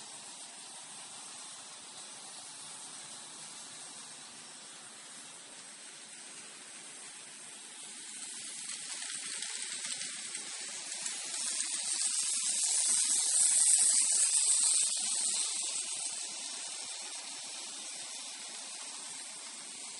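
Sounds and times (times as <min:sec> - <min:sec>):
model train hissing rush: 0:00.0 - 0:19.9.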